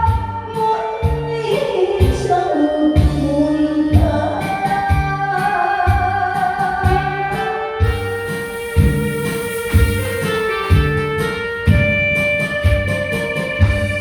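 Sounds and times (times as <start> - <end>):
bass and drum beat: 0.0 - 2.4, 3.0 - 14.0.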